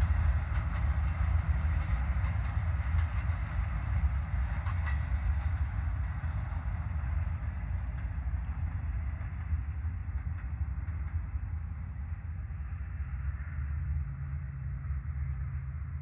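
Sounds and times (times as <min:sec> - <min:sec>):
distant freight train rolling: 0:00.0 - 0:16.0
steady low rumble: 0:00.0 - 0:16.0.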